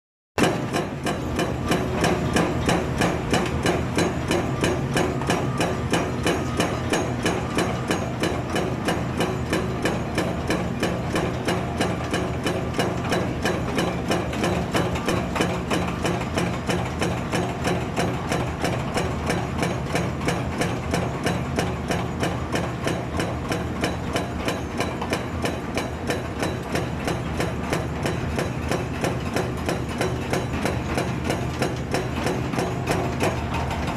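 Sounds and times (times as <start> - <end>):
hydraulic breaker hammer pounding: 0.4 - 33.9.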